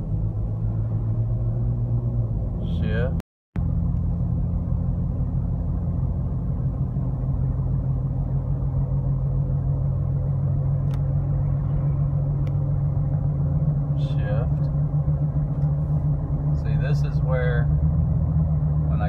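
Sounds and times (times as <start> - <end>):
car engine drone and road noise: 0.0 - 19.0.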